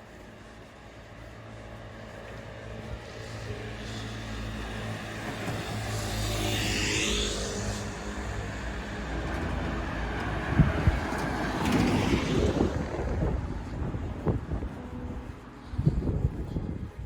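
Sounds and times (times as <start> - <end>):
car passing by: 2.1 - 16.8.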